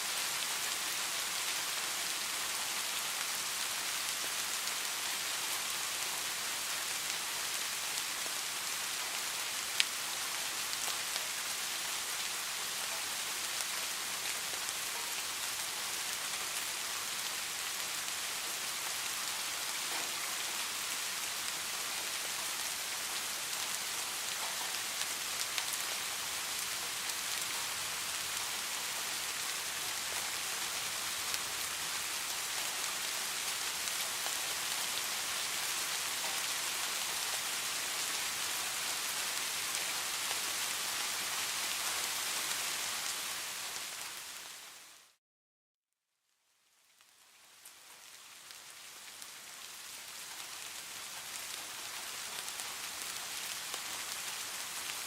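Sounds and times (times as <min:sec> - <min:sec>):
steady rain: 0:00.0 - 0:45.2, 0:46.6 - 0:55.0.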